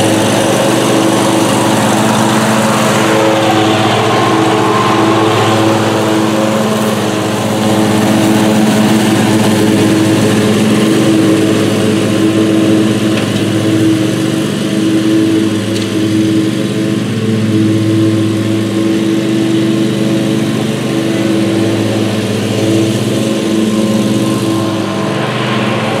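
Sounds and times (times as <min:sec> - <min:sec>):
mower engine running: 0:00.0 - 0:26.0.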